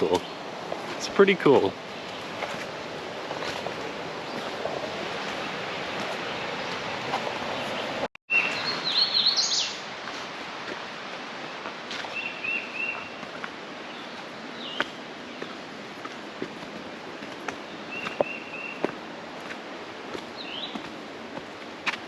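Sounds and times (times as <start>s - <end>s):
wild birds calling: 0.0s - 10.3s, 11.4s - 21.4s.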